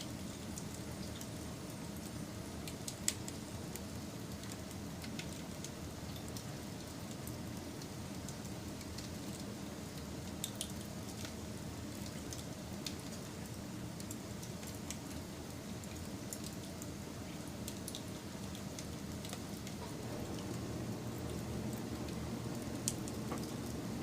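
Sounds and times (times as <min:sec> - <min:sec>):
wood fire crackling: 0:00.1 - 0:24.0.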